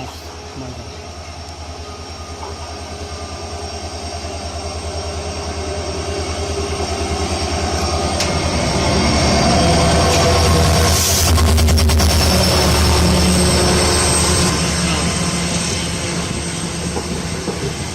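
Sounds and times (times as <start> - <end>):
diesel locomotive engine hum: 0.0 - 17.9.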